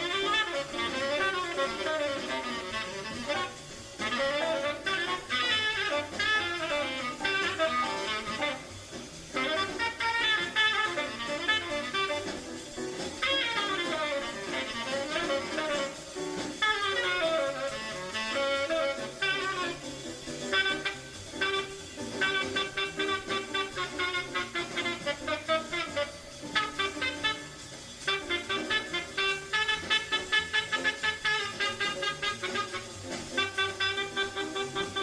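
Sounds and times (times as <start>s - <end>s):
small jazz band: 0.0s - 35.0s
tenor saxophone improvising: 0.0s - 35.0s.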